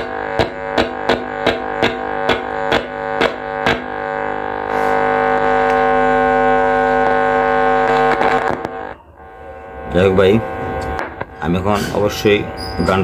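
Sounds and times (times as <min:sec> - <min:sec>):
speaker buzzing drone: 0:00.0 - 0:13.0.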